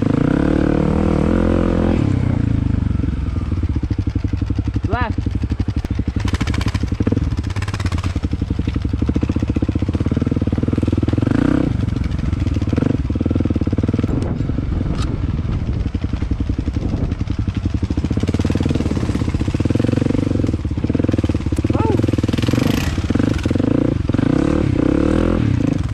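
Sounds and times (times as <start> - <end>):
dirt bike engine running: 0.0 - 25.9.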